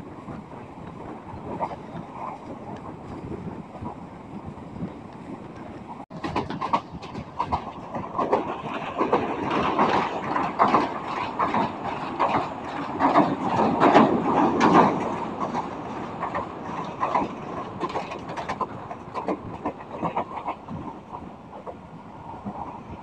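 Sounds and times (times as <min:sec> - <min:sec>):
rail-joint clicks: 0:00.0 - 0:23.0
train wheels rumbling on rails: 0:00.0 - 0:23.0.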